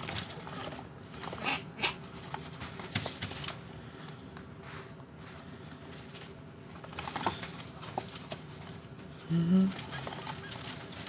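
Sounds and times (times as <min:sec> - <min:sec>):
chinchillas scrabbling in dust: 0:00.0 - 0:11.0.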